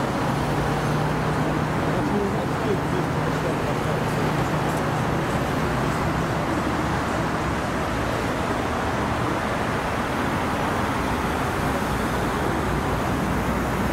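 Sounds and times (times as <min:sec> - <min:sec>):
road traffic rumble: 0:00.0 - 0:13.9.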